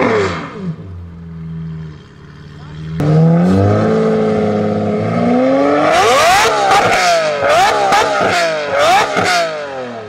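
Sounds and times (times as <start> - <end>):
engine revving with crackles: 1.5 - 10.0.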